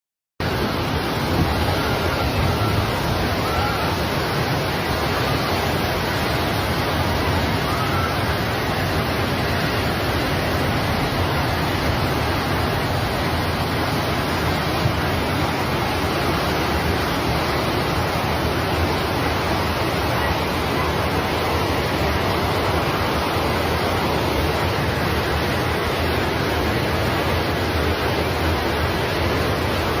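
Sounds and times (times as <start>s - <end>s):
steady rushing noise: 0.4s - 30.0s.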